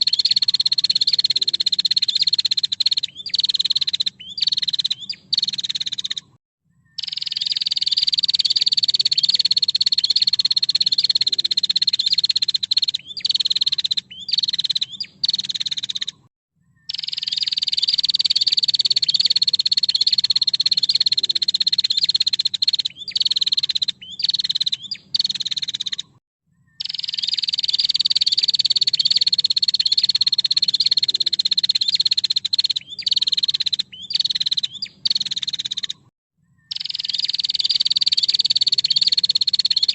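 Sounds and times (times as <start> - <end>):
bird ticking trill call: 0.0 - 39.9.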